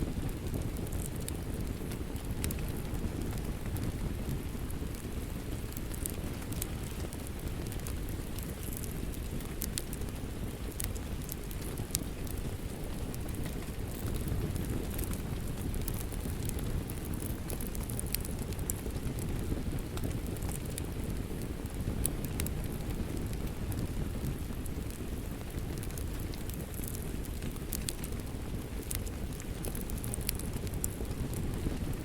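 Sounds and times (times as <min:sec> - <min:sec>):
steady rain: 0:00.0 - 0:32.0
wood fire crackling: 0:00.0 - 0:32.0.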